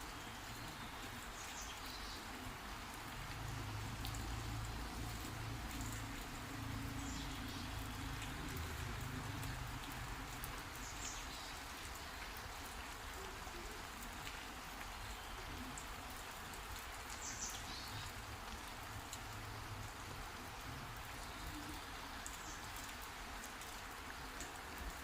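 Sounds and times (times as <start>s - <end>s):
rain ticking on surfaces: 0.0s - 25.0s.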